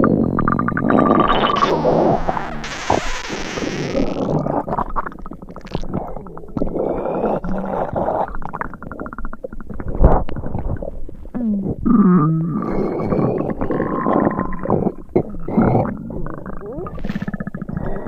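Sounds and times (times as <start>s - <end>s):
stomach rumbling and gurgling: 0.0s - 18.0s.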